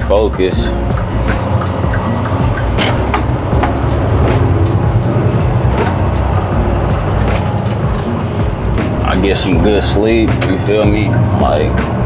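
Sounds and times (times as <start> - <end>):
diesel engine rumbling: 0.0 - 12.0
sharp clicks and rattles: 0.0 - 12.0.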